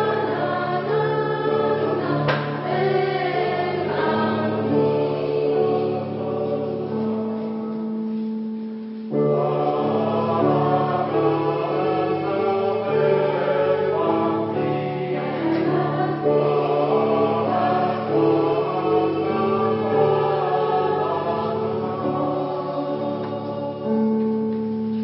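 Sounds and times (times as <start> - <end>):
choir singing in parts: 0.0 - 25.0.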